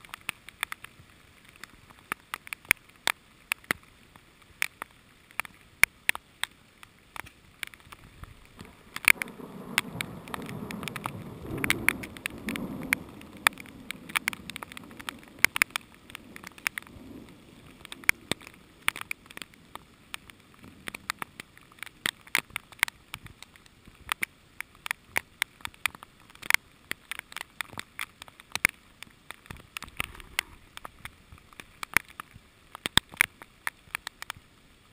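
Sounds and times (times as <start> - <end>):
heavy rain hiss: 0.0 - 34.9
raindrops ticking on camera: 0.0 - 34.9.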